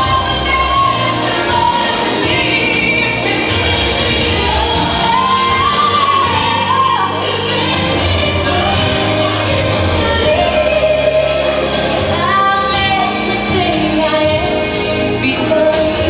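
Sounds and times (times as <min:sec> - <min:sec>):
slow song with singer: 0:00.0 - 0:16.0.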